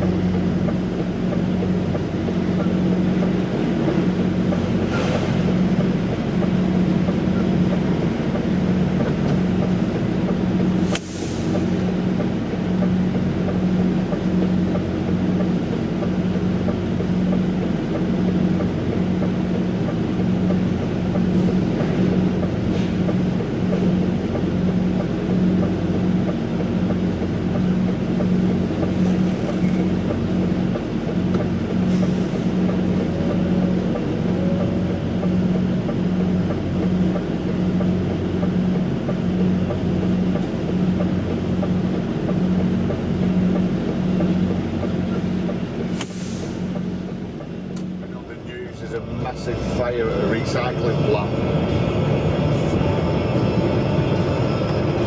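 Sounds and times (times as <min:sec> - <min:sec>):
road and tyre noise: 0:00.0 - 0:55.0
truck engine droning: 0:00.0 - 0:55.0.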